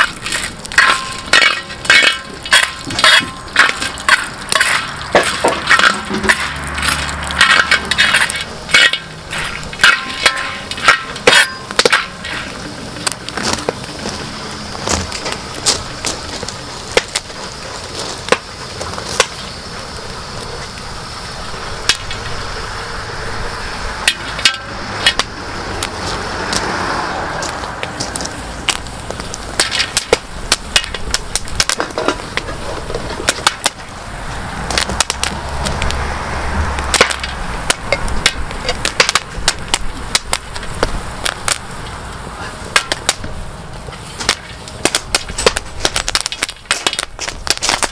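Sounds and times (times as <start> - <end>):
popcorn popping: 0.0 - 22.5, 27.5 - 34.0, 34.6 - 36.0, 36.7 - 47.9
steady hiss: 0.0 - 47.9.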